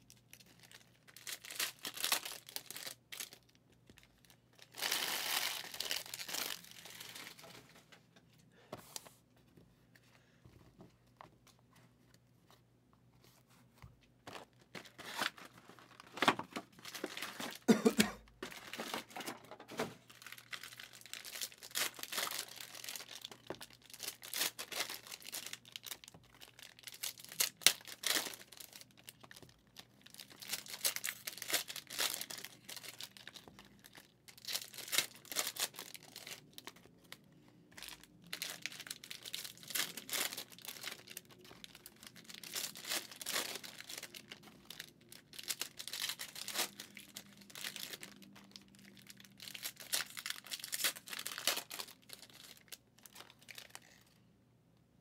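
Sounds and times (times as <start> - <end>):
foil wrappers crinkling and tearing: 0.0 - 7.7, 14.4 - 17.7, 18.3 - 54.0.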